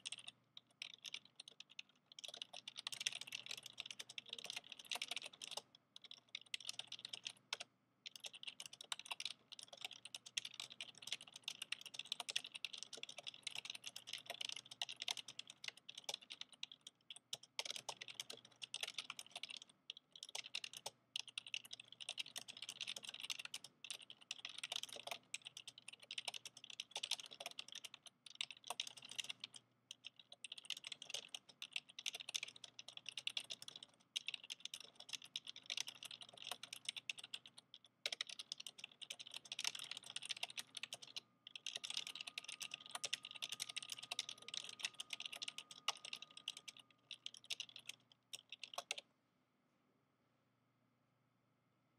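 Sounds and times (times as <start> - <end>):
fast typing on clicky keyboard: 0.0 - 49.1.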